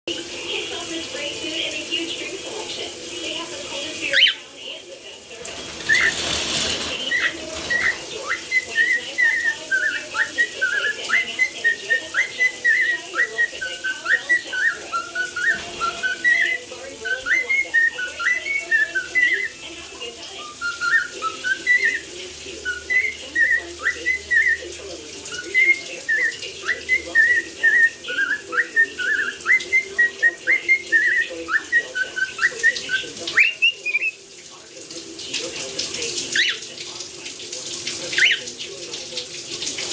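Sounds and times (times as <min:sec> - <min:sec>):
shower water hissing: 0:00.1 - 0:39.9.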